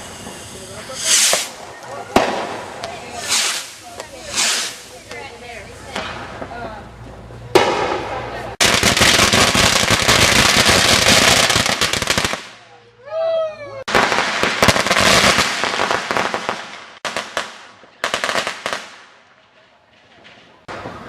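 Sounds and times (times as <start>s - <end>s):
firecrackers crackling: 0.0s - 12.8s, 13.8s - 21.0s.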